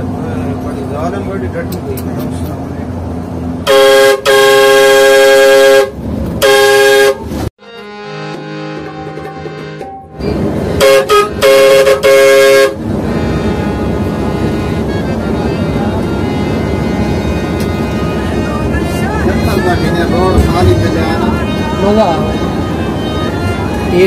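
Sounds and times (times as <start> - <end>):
road noise: 0.0 - 24.0
multi-tone vehicle horn blasts: 3.6 - 24.0.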